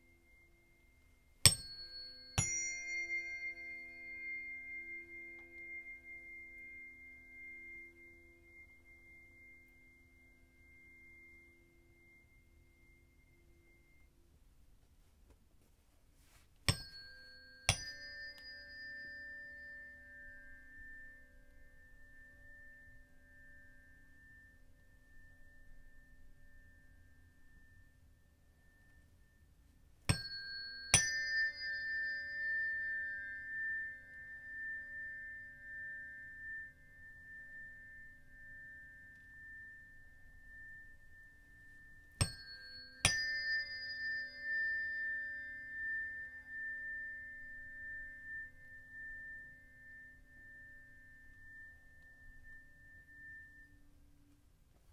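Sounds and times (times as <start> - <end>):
tuning forks struck and ringing: 0.0 - 14.4, 16.3 - 54.9.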